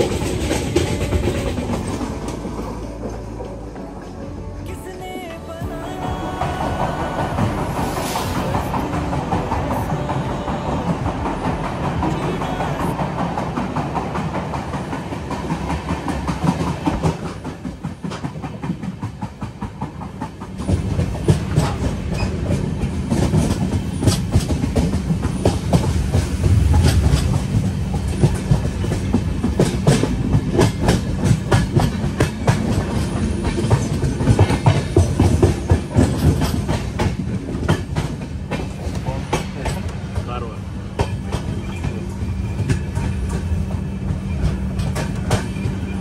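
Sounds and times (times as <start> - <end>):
train wheels clickety-clack: 0.0 - 4.1, 6.0 - 46.0.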